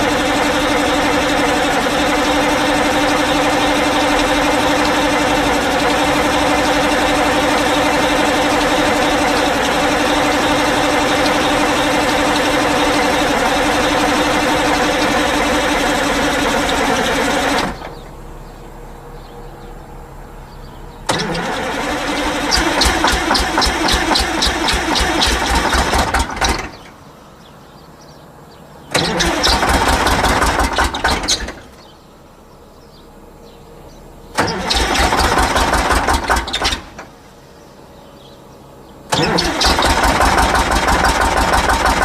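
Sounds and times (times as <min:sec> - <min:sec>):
diesel engine droning: 0:00.0 - 0:42.0
engine with rapid pulses: 0:00.0 - 0:42.0.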